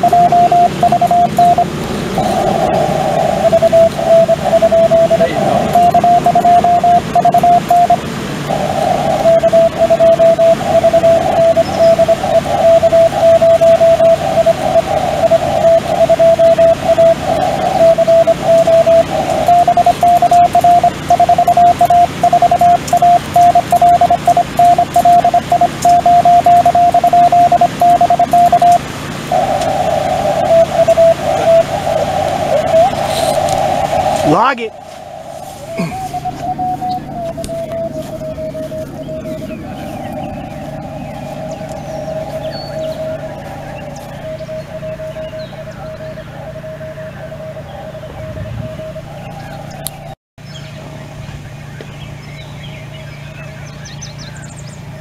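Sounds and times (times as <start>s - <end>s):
morse code tones: 0.0s - 50.2s
radio static: 0.0s - 50.2s
jumbled morse tones: 0.0s - 55.0s.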